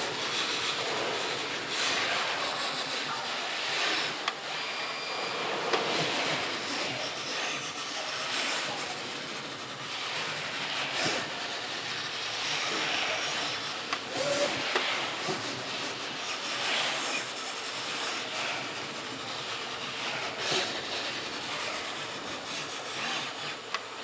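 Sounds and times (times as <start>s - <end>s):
plotter machine whirring: 0.0s - 24.0s.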